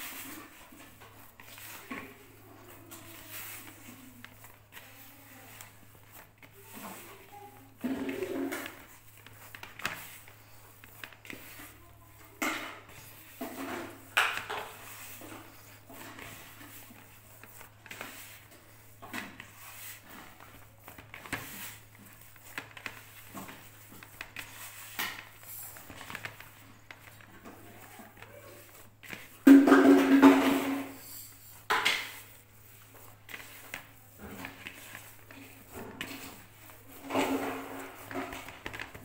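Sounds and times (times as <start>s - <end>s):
hands kneading dough: 0.0s - 39.0s.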